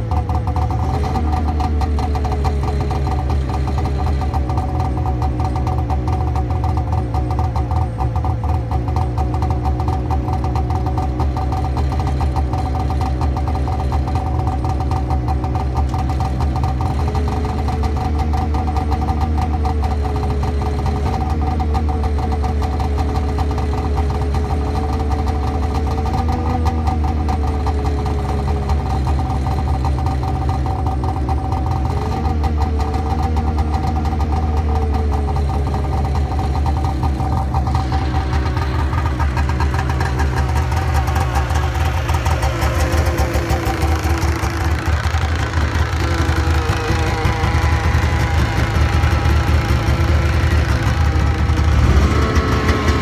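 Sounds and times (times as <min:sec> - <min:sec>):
snowmobile engine idling: 0:00.0 - 0:53.0.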